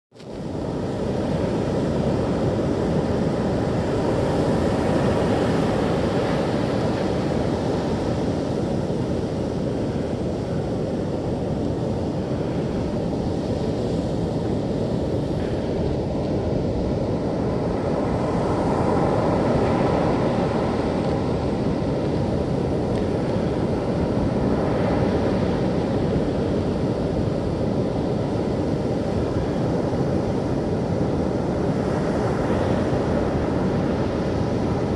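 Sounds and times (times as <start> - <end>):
ocean surf breaking: 0.2 - 34.9
wind buffeting microphone: 0.2 - 34.9.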